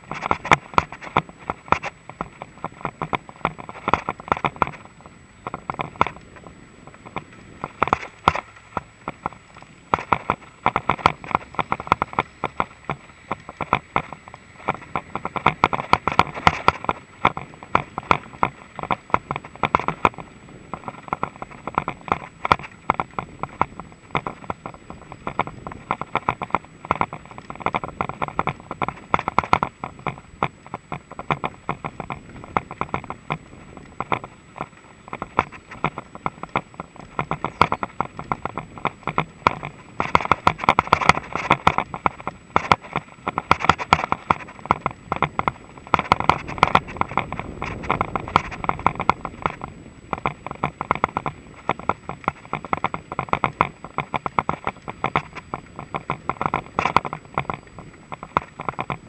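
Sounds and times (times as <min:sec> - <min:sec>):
mountain bike rattling over rough trail: 0:00.0 - 0:59.0.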